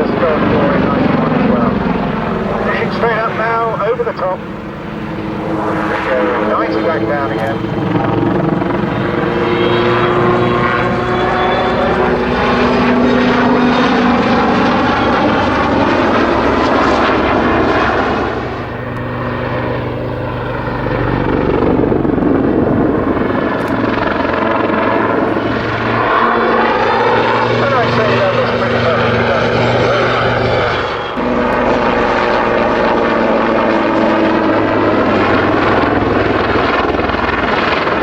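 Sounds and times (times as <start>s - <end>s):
helicopter rotor and engine noise: 0.0s - 38.0s.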